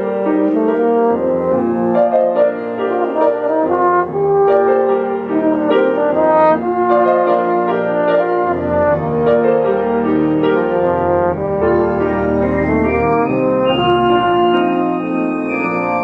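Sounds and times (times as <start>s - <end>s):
french horn melody: 0.0s - 16.0s.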